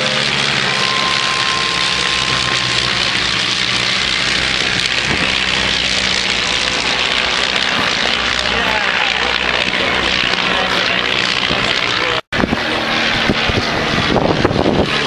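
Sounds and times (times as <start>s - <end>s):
propeller aircraft engines flying past: 0.0s - 15.0s.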